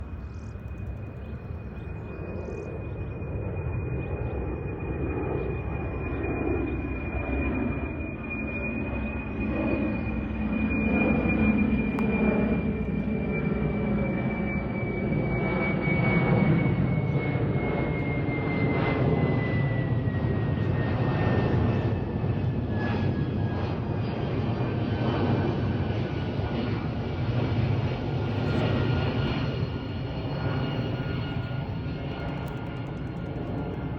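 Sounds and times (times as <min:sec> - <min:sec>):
jet engines rumbling and whining: 0:00.0 - 0:33.9.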